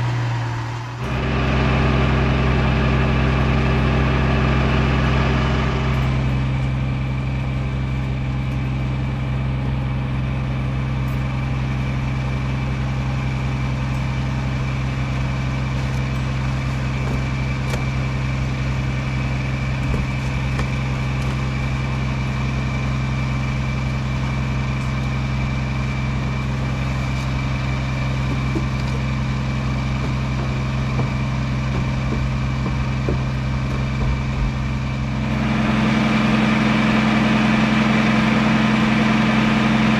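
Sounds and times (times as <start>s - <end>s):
large engine idling: 0.0s - 39.9s.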